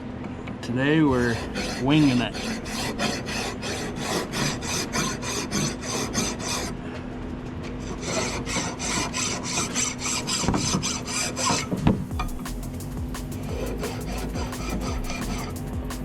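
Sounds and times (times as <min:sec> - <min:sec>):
hand file rasping on metal: 0:01.1 - 0:06.8, 0:07.8 - 0:16.0.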